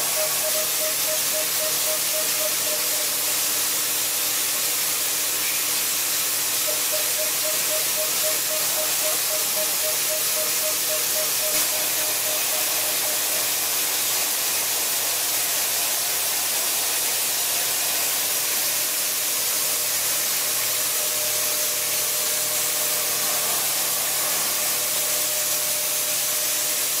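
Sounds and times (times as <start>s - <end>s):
milling machine cutting hiss: 0.0s - 27.0s.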